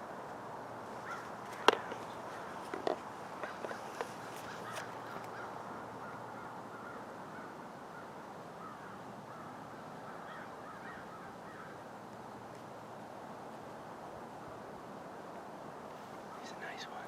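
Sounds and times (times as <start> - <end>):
birds calling faintly: 0.0 - 12.9, 15.8 - 17.0
outdoor background hiss: 0.0 - 17.0.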